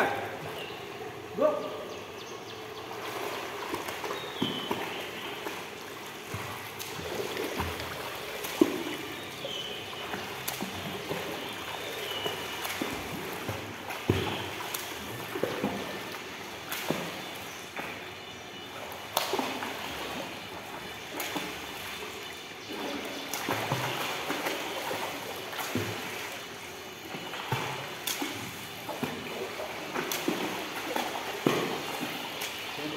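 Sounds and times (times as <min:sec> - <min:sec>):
water splashing from swimming: 0:00.0 - 0:32.9.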